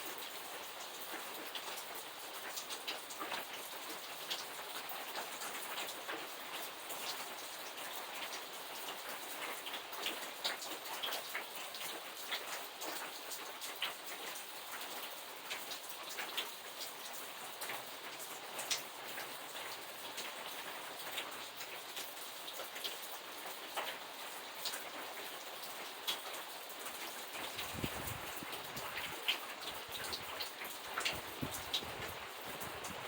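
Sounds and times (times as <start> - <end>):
rain drops tapping: 0.0 - 33.0.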